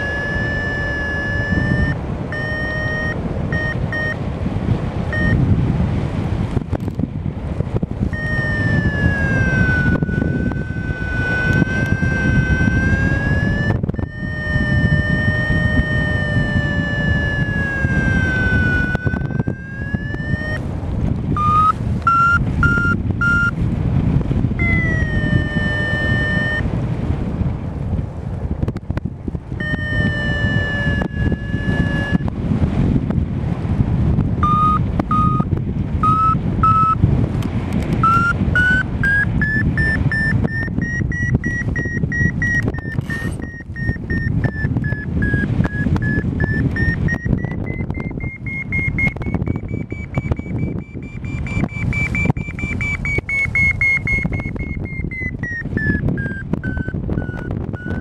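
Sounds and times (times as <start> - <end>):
variometer beeping: 0.0 - 5.6, 7.7 - 26.8, 29.0 - 33.1, 34.4 - 58.0
wind on microphone: 0.0 - 58.0.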